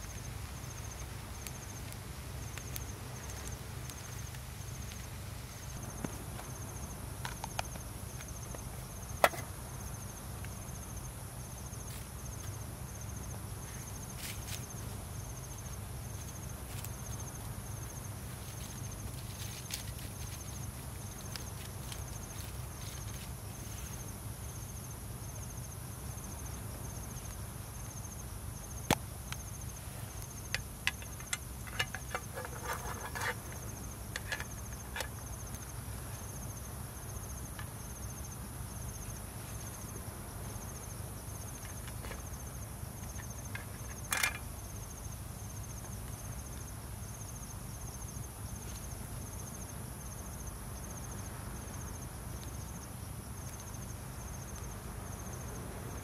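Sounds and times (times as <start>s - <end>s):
crickets trilling: 0.0s - 56.0s
pulsed insect chirp: 0.0s - 56.0s.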